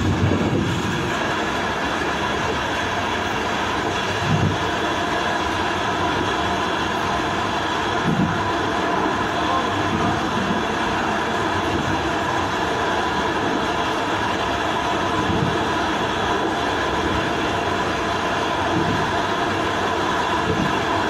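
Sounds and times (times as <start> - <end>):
train rumble and hiss: 0.0 - 21.0.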